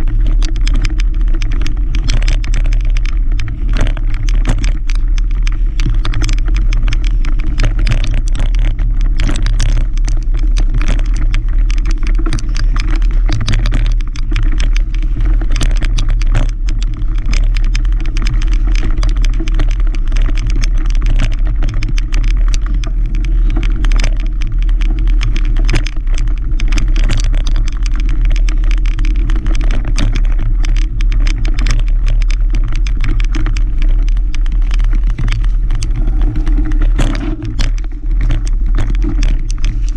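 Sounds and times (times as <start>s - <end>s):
bike rattling and clicking: 0.0s - 39.9s
wind and tyre rumble: 0.0s - 39.9s.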